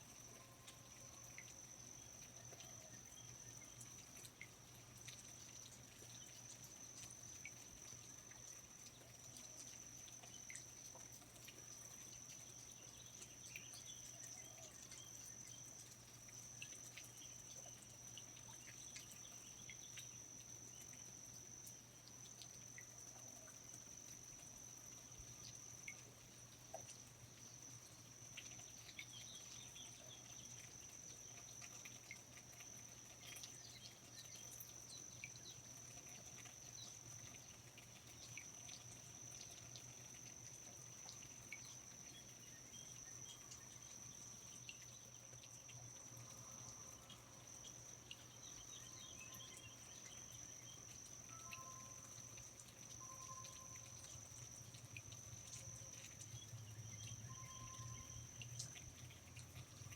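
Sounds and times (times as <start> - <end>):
light water drips: 0.0 - 59.9
low steady hum: 0.0 - 59.9
high-pitched insect drone: 5.2 - 59.8.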